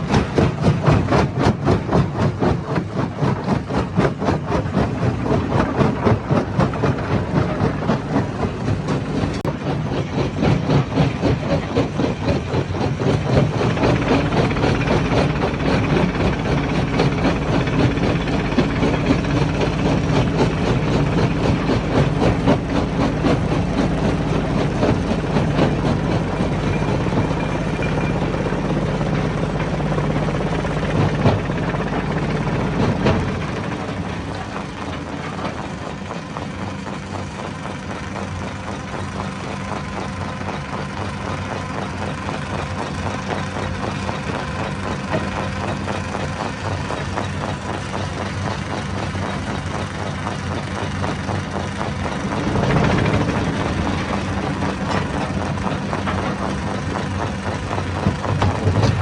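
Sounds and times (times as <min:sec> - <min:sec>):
stone crusher drone: 0:00.0 - 0:59.0.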